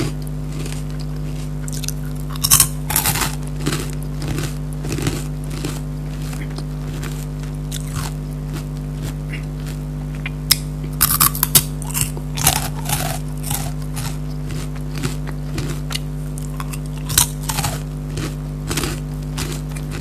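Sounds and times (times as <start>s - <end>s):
snacks being crunched: 0.0s - 20.0s.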